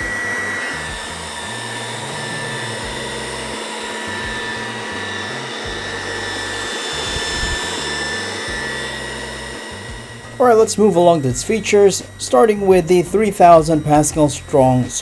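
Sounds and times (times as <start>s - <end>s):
robot vacuum motor whining: 0.0s - 15.0s.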